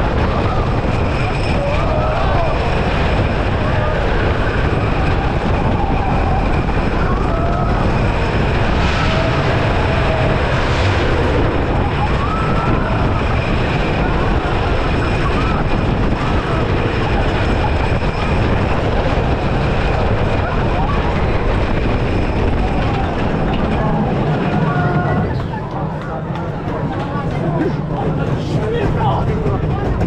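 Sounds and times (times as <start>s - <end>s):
roller coaster wheels rumbling: 0.0s - 30.0s
wind on microphone: 0.0s - 30.0s.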